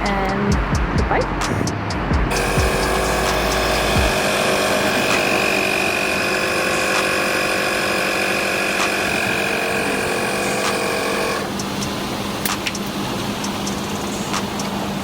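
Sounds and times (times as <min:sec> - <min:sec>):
motor humming: 0:02.3 - 0:15.0.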